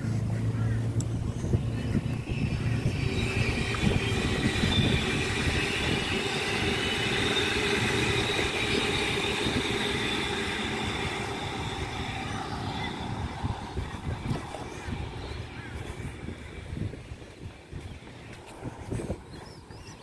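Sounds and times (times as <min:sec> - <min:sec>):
passenger train passing: 0:00.0 - 0:20.0.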